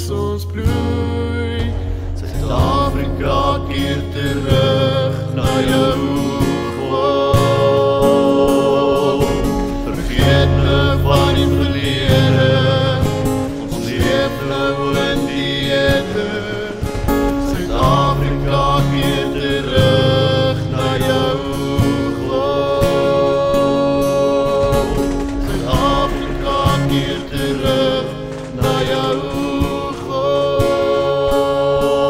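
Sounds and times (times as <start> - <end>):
acoustic guitar: 0.0 - 32.0
people singing gospel song: 0.0 - 32.0.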